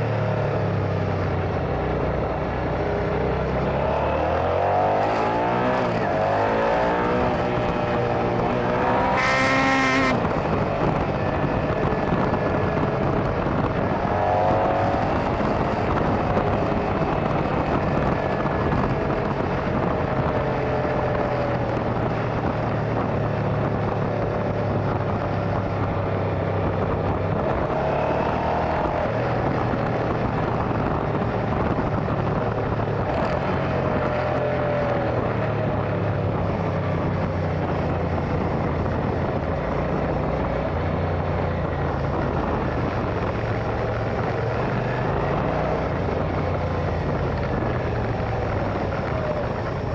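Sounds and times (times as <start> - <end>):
motorcycle engine accelerating: 0.0 - 49.9
wind and road rush: 0.0 - 49.9.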